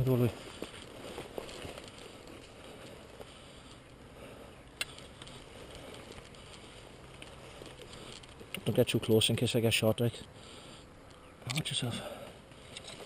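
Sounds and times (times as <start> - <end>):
faint rustling in woodland: 0.0 - 13.0.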